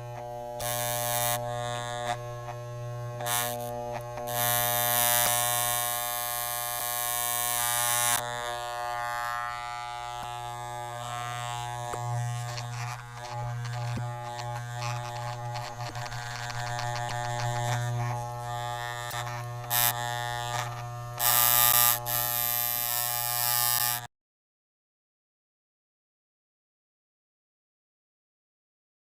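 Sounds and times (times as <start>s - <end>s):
electric hair clipper buzzing: 0.0s - 24.1s.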